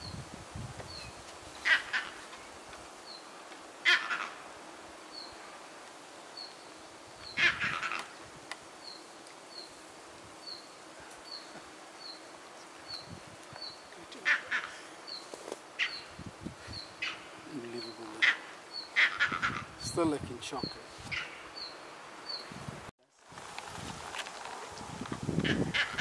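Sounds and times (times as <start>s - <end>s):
loud bird calls: 0.9s - 5.6s, 6.3s - 9.8s, 10.4s - 22.6s, 25.4s - 26.0s.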